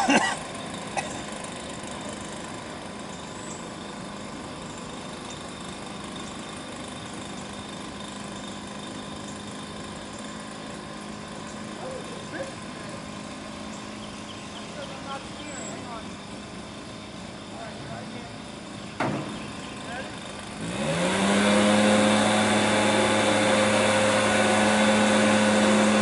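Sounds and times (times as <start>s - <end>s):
blower motor humming: 0.0s - 26.0s.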